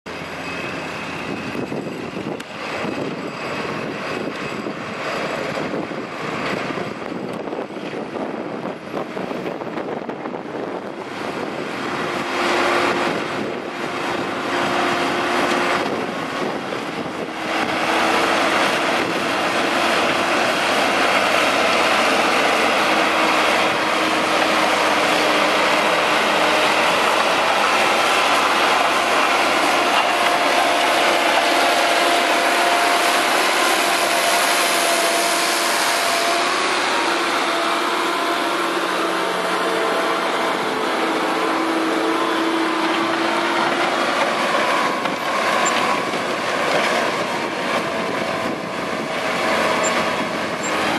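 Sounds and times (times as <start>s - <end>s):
tractor diesel engine under load: 0.1s - 50.9s.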